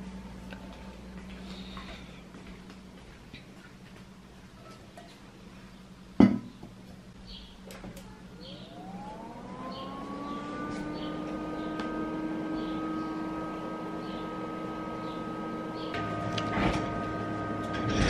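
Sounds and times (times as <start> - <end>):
computer fans humming: 0.0 - 18.0.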